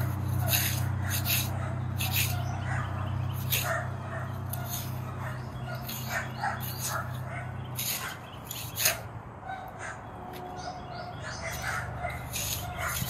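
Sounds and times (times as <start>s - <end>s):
trowel scraping soil: 0.0s - 9.1s, 11.4s - 13.0s
bird calling: 0.0s - 13.0s.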